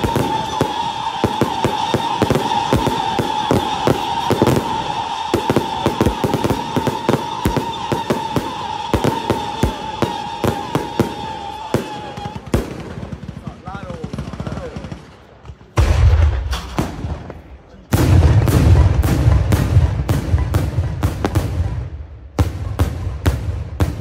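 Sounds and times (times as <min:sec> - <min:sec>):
fireworks cracking and banging: 0:00.0 - 0:24.0.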